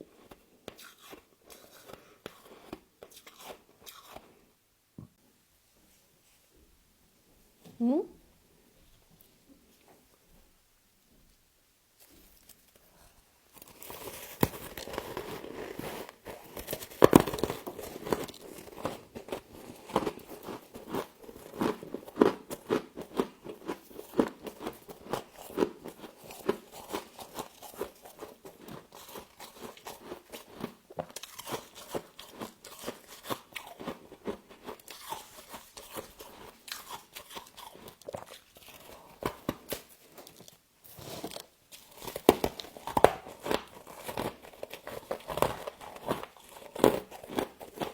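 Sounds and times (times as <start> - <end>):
crunching and chewing frost: 0.0 - 4.5, 12.0 - 47.9.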